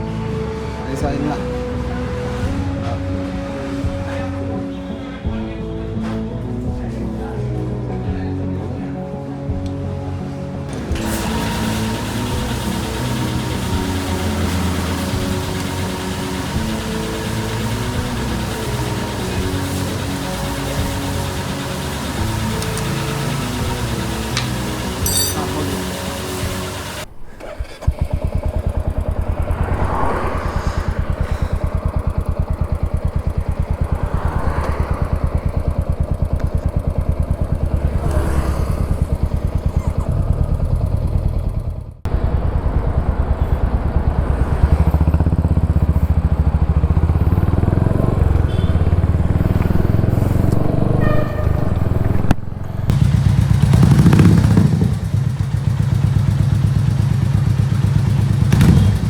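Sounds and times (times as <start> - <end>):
motorcycle engine idling: 10.7 - 30.3, 31.0 - 59.0.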